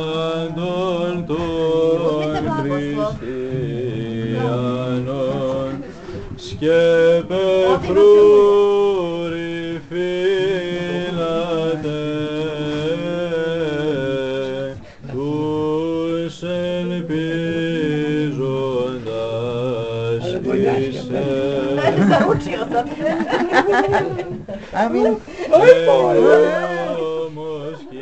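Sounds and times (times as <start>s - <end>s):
choir chanting a cappella: 0.0s - 28.0s.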